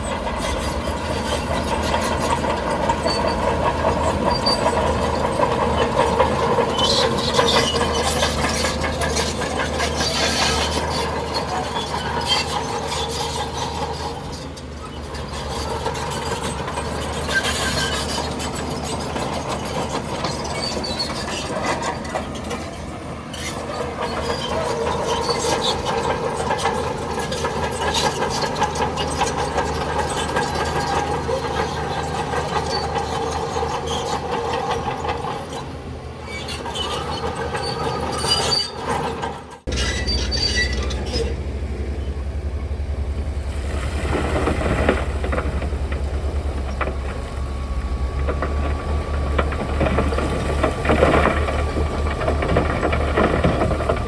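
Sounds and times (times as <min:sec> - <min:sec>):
bulldozer tracks squealing and clanking: 0:00.0 - 0:54.0
diesel engine running: 0:00.0 - 0:54.0.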